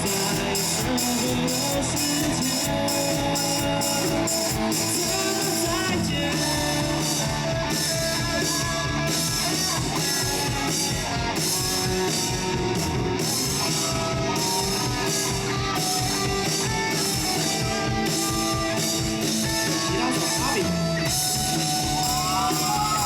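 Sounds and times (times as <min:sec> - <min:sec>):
drum kit playing: 0:00.0 - 0:23.0
electric guitars: 0:00.0 - 0:23.0.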